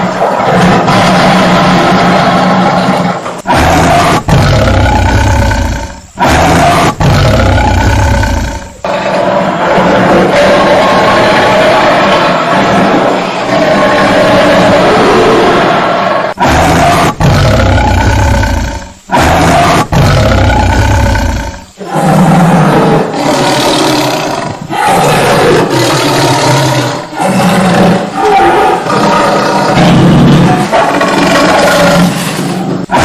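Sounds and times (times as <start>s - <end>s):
tiger roaring: 0.0s - 33.0s.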